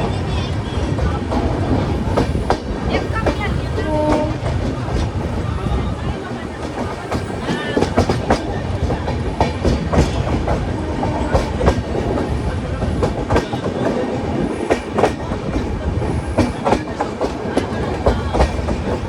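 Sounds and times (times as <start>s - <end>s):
train wheels clattering: 0.0s - 19.0s.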